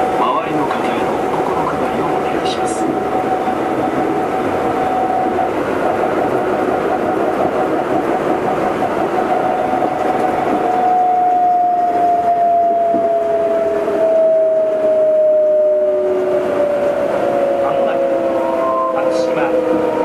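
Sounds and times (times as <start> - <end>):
train motor whine: 0.0 - 20.0.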